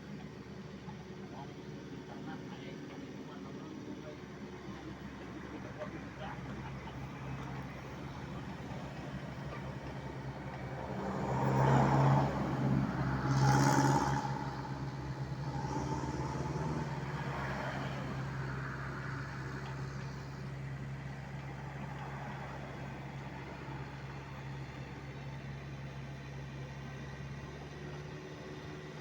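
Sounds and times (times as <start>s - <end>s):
heavy equipment engine running: 2.9s - 29.0s.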